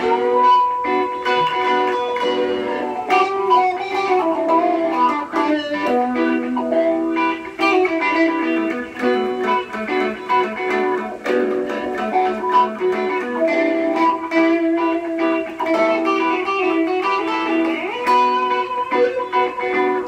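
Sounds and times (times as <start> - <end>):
electric guitar lead melody: 0.0 - 20.0.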